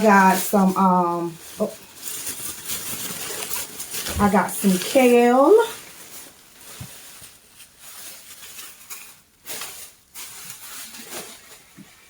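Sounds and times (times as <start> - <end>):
grocery bags rustling: 0.0 - 12.0.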